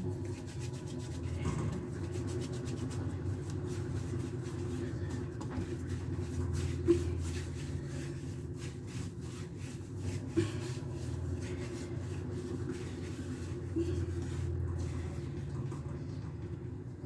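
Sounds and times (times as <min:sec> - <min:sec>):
hands rubbing dough on surface: 0:00.0 - 0:15.4
steady low hum: 0:00.0 - 0:17.0.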